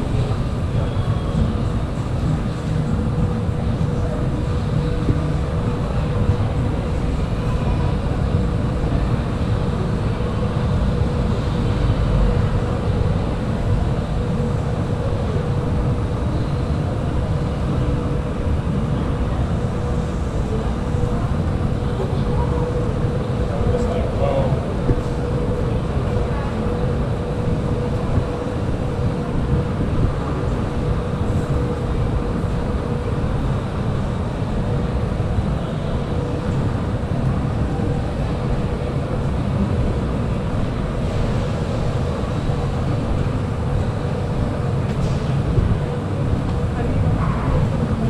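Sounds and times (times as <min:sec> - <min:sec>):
city traffic rumble: 0:00.0 - 0:48.0.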